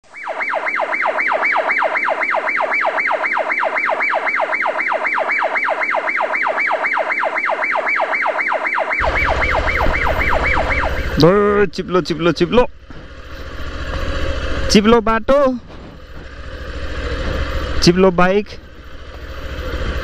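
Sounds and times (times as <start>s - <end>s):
electronic siren wailing: 0.0s - 20.0s.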